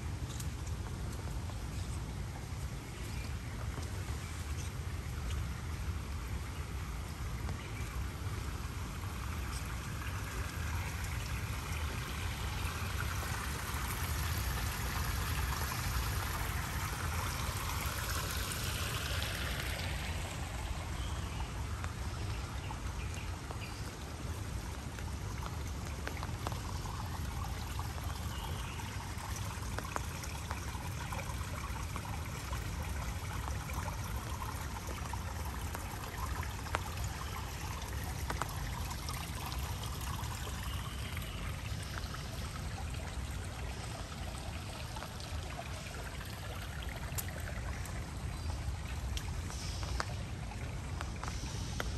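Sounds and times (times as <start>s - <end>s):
raindrops dripping: 0.0s - 51.9s
running water trickling: 0.0s - 51.9s.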